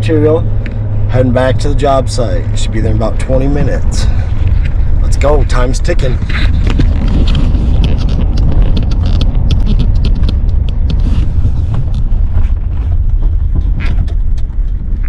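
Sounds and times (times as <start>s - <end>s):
trailer rattles and clicks: 0.0s - 15.0s
truck rumbling on road: 0.0s - 15.0s.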